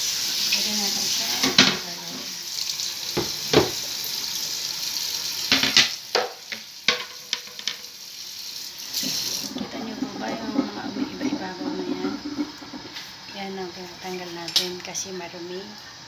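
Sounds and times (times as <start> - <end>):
pot boiling with bubbling: 0.0 - 16.0.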